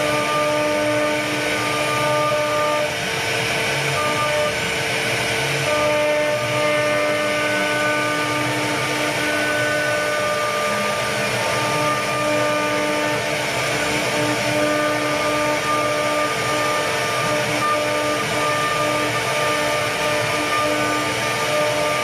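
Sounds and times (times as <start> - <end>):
router cutting wood: 0.0 - 22.0
router spindle whining: 0.0 - 22.0.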